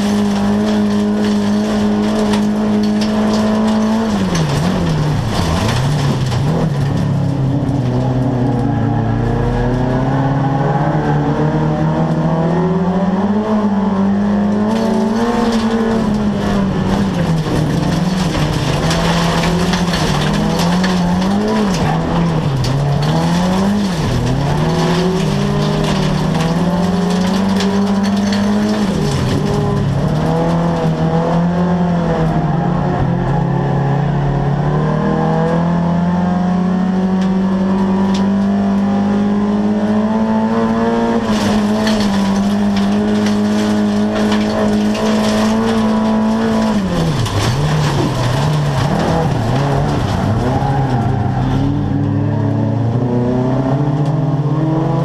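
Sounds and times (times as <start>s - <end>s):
car engine revving at speed: 0.0s - 55.0s.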